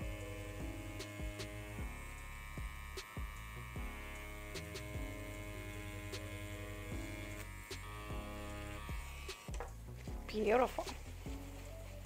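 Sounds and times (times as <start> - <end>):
tattoo pen buzzing: 0.0 - 11.7.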